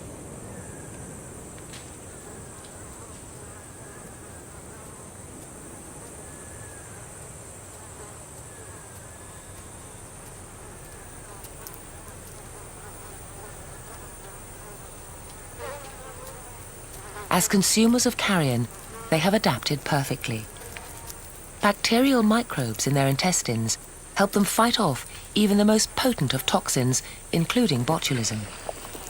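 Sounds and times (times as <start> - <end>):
high-pitched insect chorus: 0.2 - 29.0.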